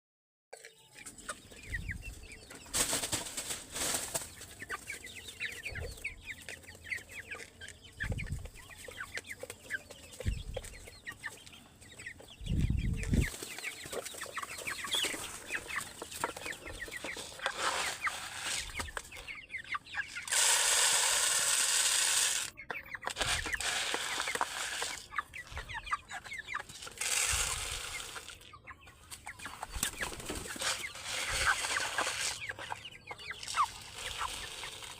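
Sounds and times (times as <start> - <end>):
chickens clucking: 0.6 - 34.9.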